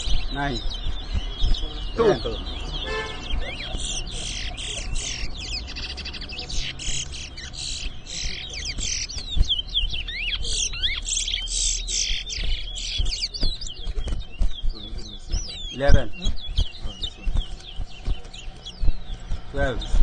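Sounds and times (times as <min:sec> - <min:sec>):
finches singing trills and whistles: 0:00.0 - 0:20.0.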